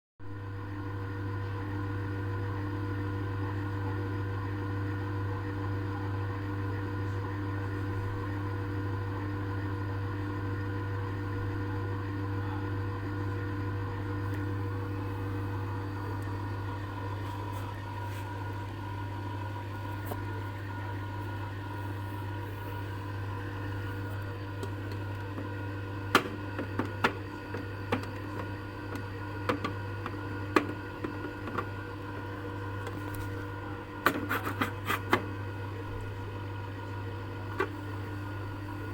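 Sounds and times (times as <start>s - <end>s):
ice cream maker humming: 0.3s - 38.9s.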